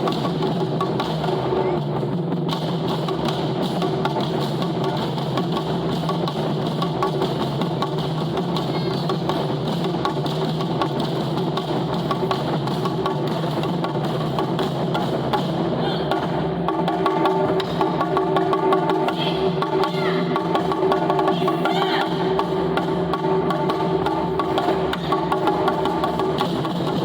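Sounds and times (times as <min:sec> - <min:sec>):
taiko drums playing fast: 0:00.0 - 0:27.0.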